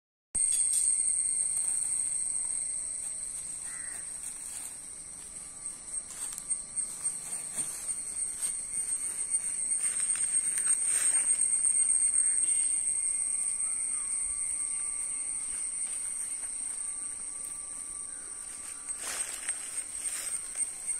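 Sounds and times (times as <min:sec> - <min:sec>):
high-pitched insect buzzing: 0:00.4 - 0:20.9.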